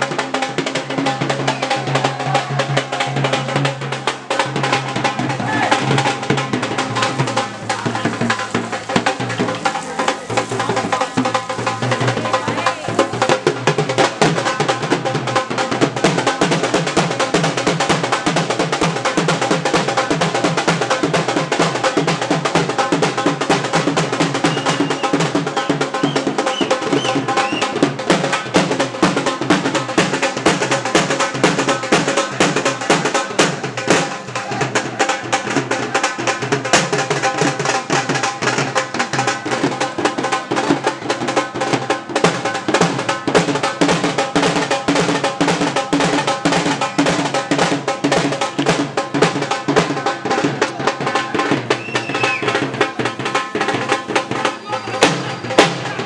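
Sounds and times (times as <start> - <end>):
fast dense drumming: 0.0 - 56.0.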